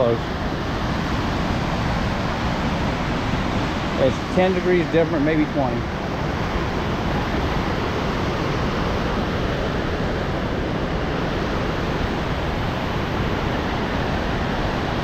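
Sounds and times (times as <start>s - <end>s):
rushing waterfall: 0.0s - 15.0s.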